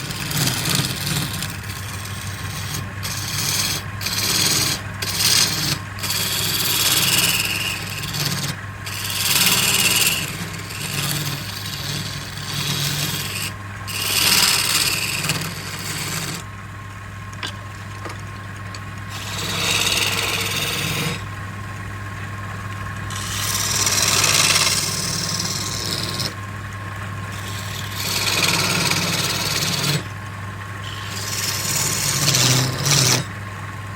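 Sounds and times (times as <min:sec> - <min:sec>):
turning tool scraping wood: 0:00.0 - 0:16.5, 0:17.3 - 0:21.3, 0:22.9 - 0:26.4, 0:27.2 - 0:30.1, 0:30.8 - 0:33.4
lathe motor hum: 0:00.0 - 0:33.9.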